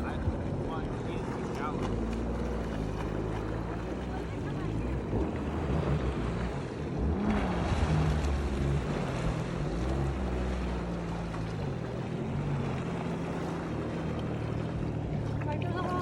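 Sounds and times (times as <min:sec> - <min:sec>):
motorboat engine idling: 0:00.0 - 0:16.0
water noise: 0:00.0 - 0:16.0.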